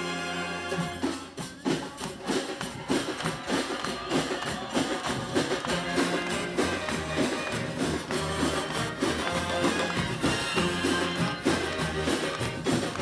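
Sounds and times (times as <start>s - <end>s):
wind band playing: 0.0s - 1.5s, 3.5s - 13.0s
drums beating: 0.7s - 13.0s.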